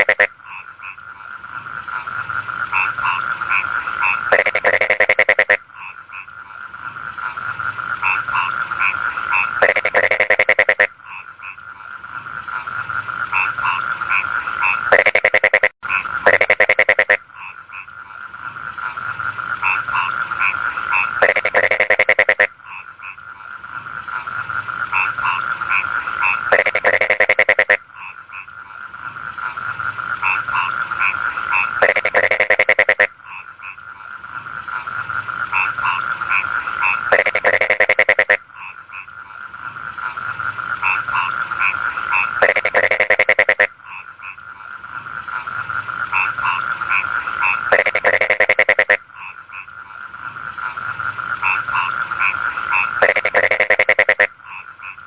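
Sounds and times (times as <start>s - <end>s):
frogs croaking in chorus: 0.0s - 55.0s
loud rapid pulsed croak: 0.0s - 55.0s.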